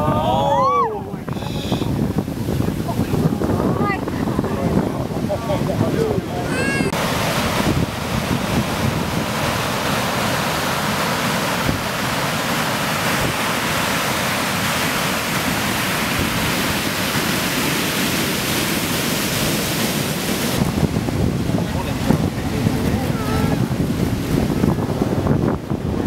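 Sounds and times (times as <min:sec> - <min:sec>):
surf breaking on sand: 0:00.0 - 0:26.0.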